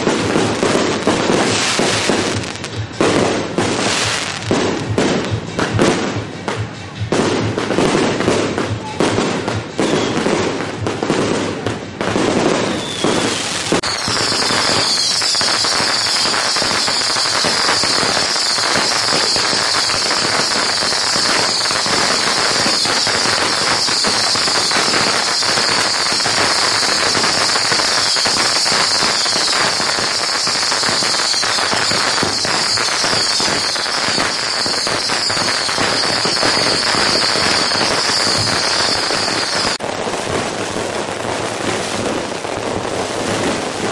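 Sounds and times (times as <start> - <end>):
firecrackers crackling: 0.0 - 43.9.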